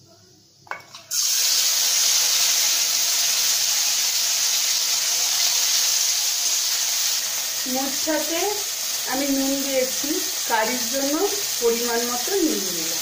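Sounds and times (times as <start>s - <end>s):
tomato sizzling in hot oil: 0.8s - 13.0s.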